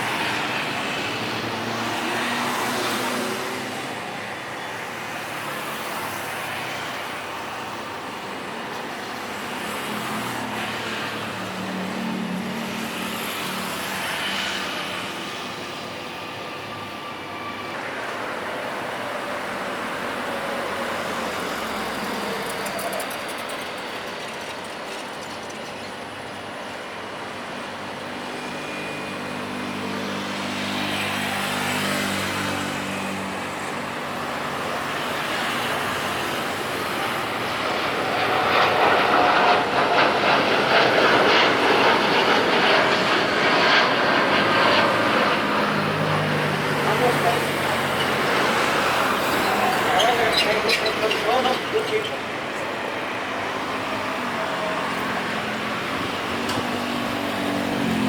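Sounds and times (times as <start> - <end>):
jet airliner engines roaring: 0.0 - 58.0.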